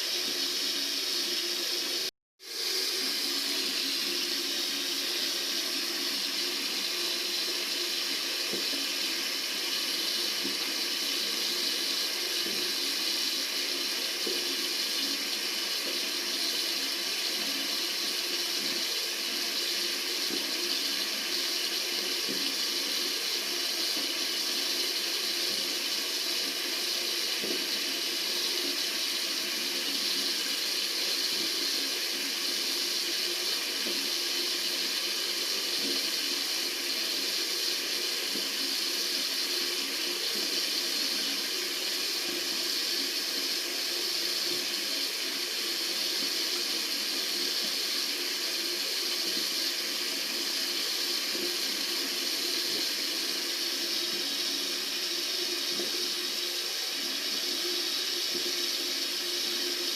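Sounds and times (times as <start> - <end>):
tap water running: 0.0 - 59.9.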